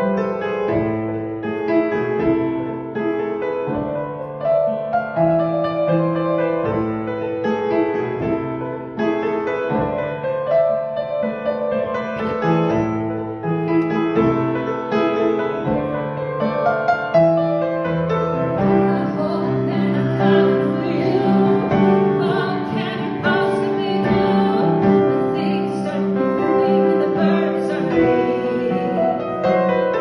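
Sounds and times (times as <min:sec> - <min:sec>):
piano playing slow chords: 0:00.0 - 0:30.0.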